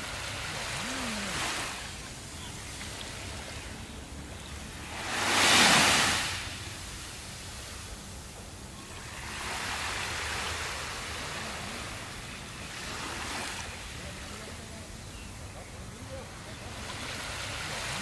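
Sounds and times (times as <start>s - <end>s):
waves washing up a beach: 0.0s - 18.0s.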